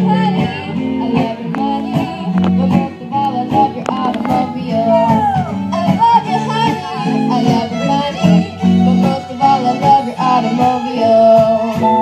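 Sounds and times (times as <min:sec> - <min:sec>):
fiddle melody: 0:00.0 - 0:12.0
strummed guitar chords: 0:00.0 - 0:12.0.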